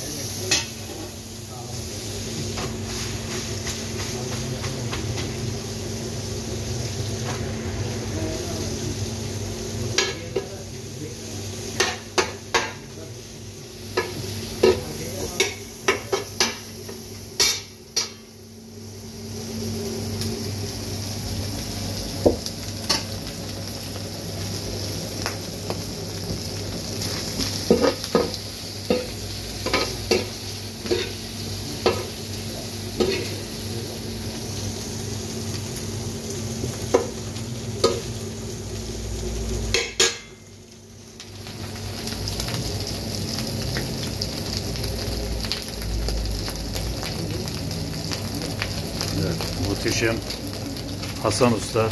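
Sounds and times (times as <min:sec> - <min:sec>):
meat sizzling in oil: 0:00.0 - 0:51.9.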